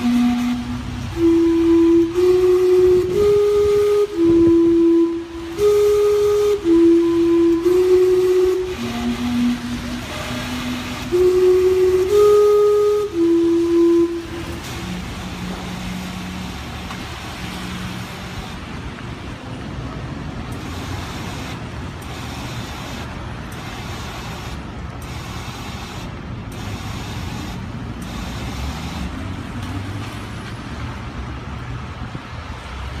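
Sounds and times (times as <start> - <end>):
traffic rumble: 0.0 - 33.0.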